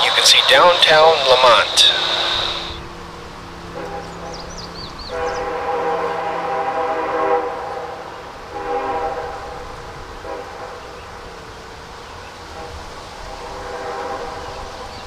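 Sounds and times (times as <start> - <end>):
locomotive air horn blasts: 0.0 - 15.0.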